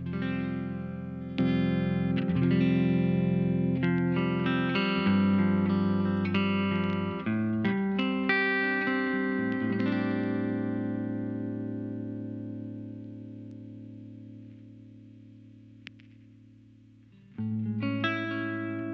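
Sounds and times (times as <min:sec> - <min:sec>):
electric guitar notes ringing: 0:00.0 - 0:16.4, 0:17.3 - 0:18.9.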